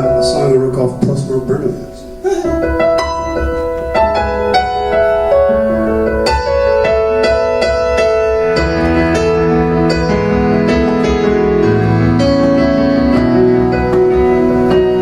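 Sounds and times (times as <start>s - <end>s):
slow piano ballad: 0.0s - 15.0s.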